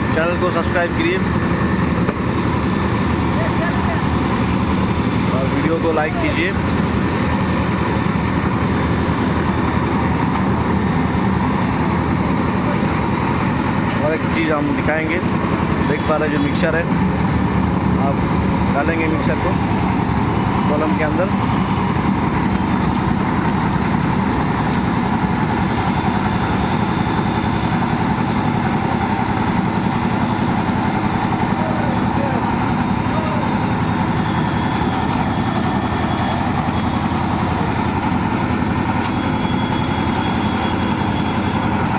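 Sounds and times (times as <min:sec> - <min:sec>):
machinery engine rumbling: 0:00.0 - 0:41.9.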